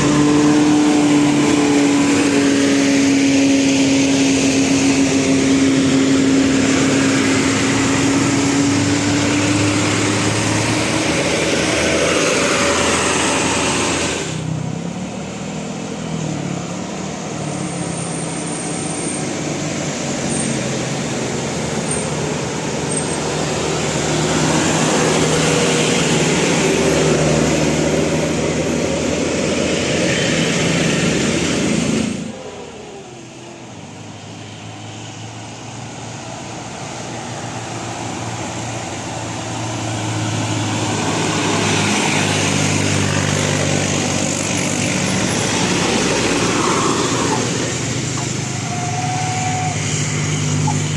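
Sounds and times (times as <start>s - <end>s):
traffic noise: 0.0s - 50.9s
vehicle engines running: 0.0s - 50.9s.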